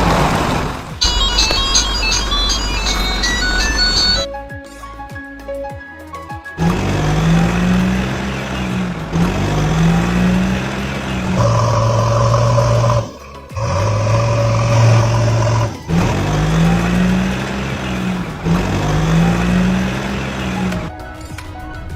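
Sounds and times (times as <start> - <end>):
engine revving: 0.0 - 4.3, 6.6 - 20.9.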